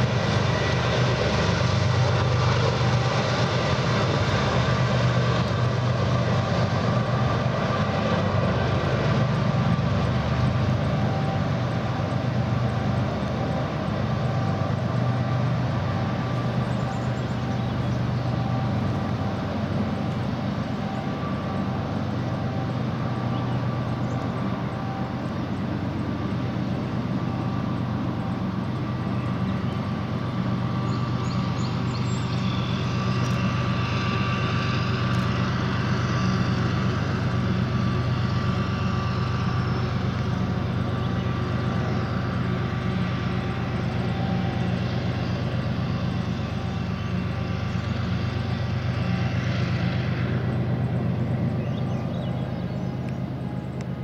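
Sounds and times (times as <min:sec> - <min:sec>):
freight train rumbling on a bridge: 0:00.0 - 0:54.0.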